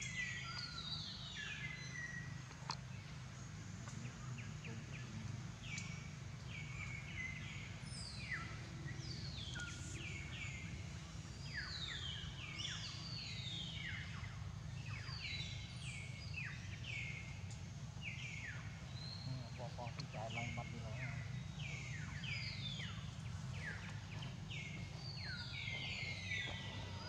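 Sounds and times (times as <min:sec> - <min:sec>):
birds singing: 0:00.0 - 0:27.0.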